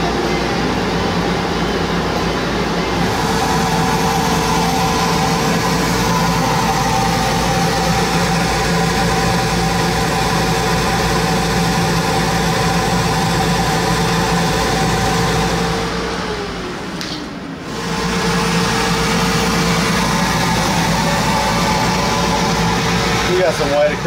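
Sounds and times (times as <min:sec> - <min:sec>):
laser cutter whirring: 0:00.0 - 0:24.0.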